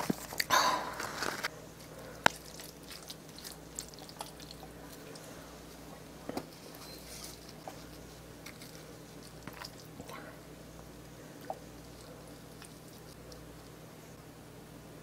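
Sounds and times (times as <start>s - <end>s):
wet chewing of food: 0.0s - 13.8s.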